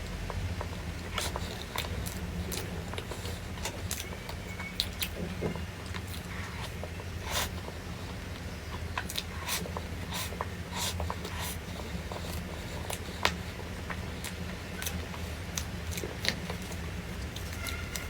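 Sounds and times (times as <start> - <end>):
chewing and mouth noises: 0.0 - 18.0
steady low hum: 0.0 - 18.0.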